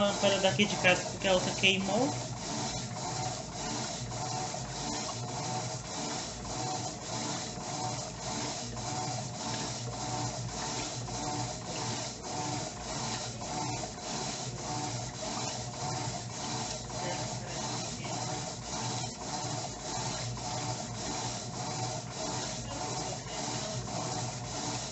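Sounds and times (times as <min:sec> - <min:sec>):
washing machine agitating clothes: 0:00.0 - 0:24.9.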